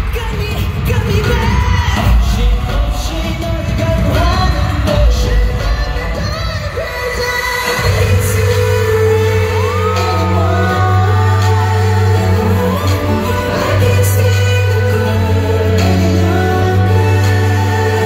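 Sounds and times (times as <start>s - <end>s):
live pop concert music with singing: 0.0s - 18.0s.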